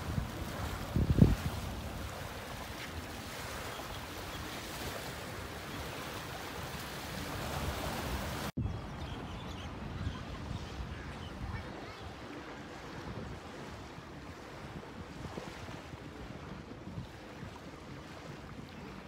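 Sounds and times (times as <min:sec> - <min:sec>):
water lapping on shore: 0:00.0 - 0:08.6, 0:09.7 - 0:19.0
wind buffeting microphone: 0:00.0 - 0:19.0.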